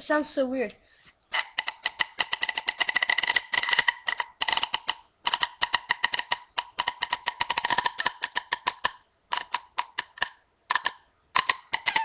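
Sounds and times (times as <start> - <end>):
rapid uneven clicking: 1.4 - 12.0.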